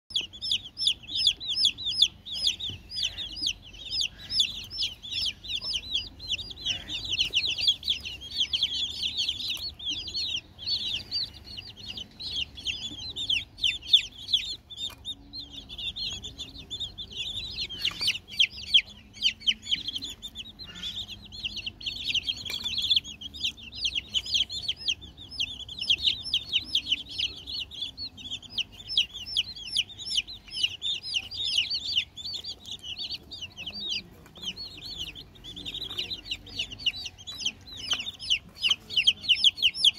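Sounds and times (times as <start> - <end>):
chicks peeping: 0.1 - 39.9.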